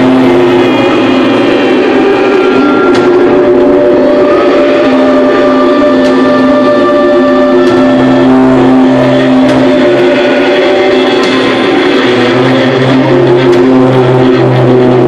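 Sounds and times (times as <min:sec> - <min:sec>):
bass guitar: 0:00.0 - 0:15.0
distorted electric guitars: 0:00.0 - 0:15.0.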